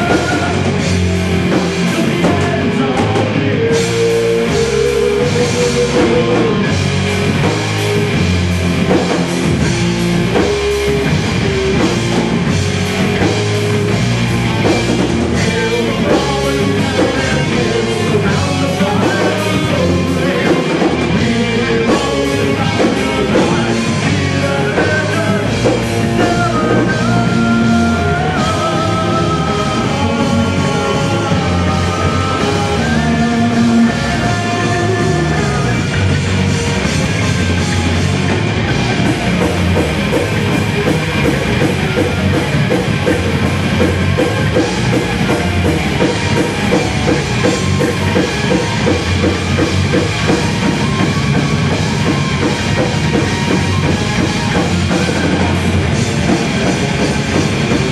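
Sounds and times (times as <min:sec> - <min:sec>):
distorted guitars: 0:00.0 - 0:57.9
drum kit: 0:00.0 - 0:57.9
metal band playing live: 0:00.0 - 0:57.9.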